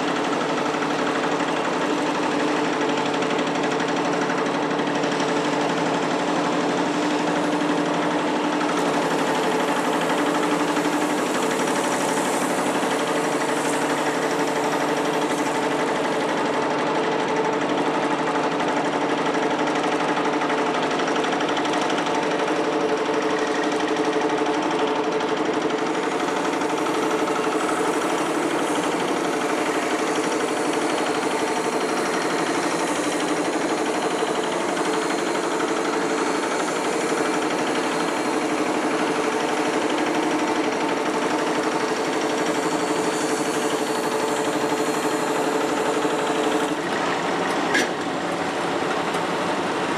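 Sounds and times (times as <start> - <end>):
drilling rig mechanical drone: 0.0 - 49.9.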